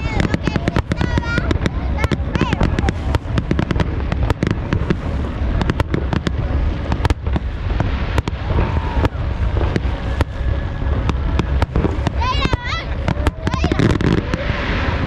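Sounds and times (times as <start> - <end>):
deep rumble: 0.0 - 15.0
fireworks bangs and crackles: 0.0 - 15.0.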